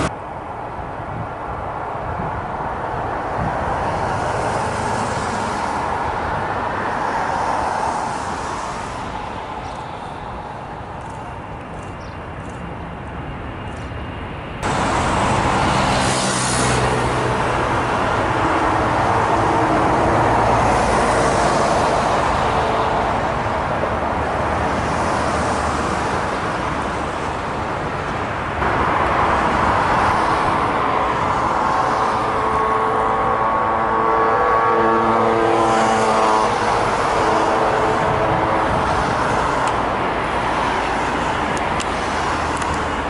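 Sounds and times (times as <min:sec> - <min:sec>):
jet engines at take-off thrust: 0:00.0 - 0:43.0.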